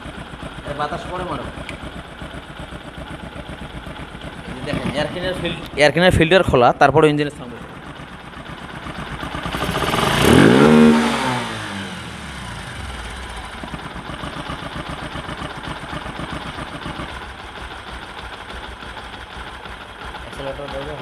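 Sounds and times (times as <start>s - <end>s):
motorcycle engine revving and idling: 0.0s - 21.0s.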